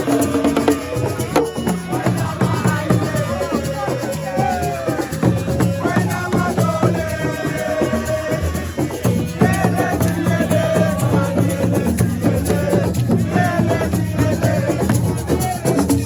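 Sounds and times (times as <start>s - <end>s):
drums: 0.0s - 16.0s
shaker rattle: 0.0s - 16.0s.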